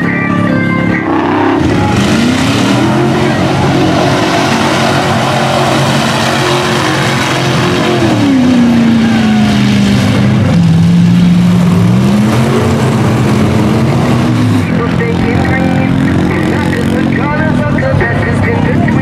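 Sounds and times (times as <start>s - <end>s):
truck engine running hard: 0.0s - 19.0s.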